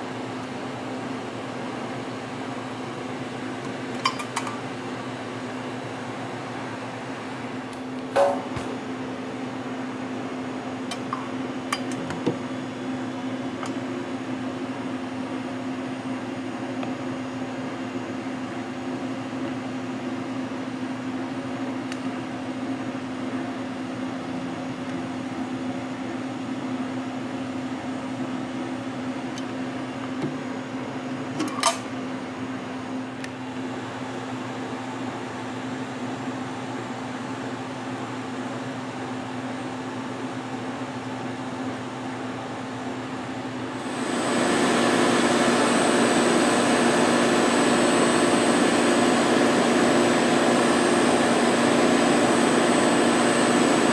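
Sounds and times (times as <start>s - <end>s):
batch freezer humming: 0.0s - 53.9s.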